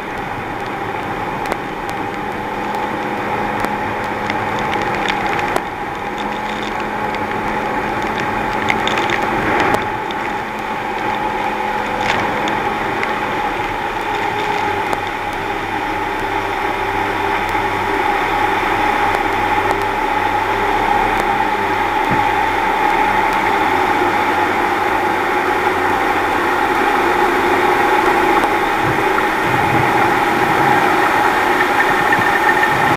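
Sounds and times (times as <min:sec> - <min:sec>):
outboard motor running: 0:00.0 - 0:32.9
water and wind rushing: 0:00.0 - 0:32.9.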